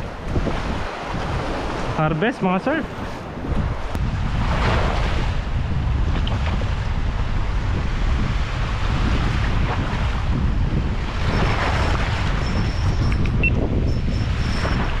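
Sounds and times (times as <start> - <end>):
waves washing on shore: 0.0 - 15.0
wind buffeting microphone: 0.0 - 15.0.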